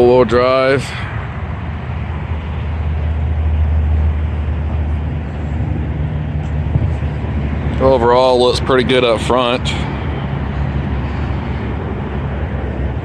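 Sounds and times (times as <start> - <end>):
road noise hiss: 0.0 - 13.0
vehicle engine rumbling: 0.0 - 13.0.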